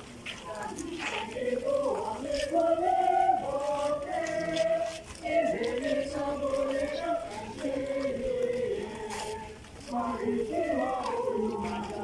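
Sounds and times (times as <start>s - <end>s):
crowd singing a hymn: 0.3s - 12.0s.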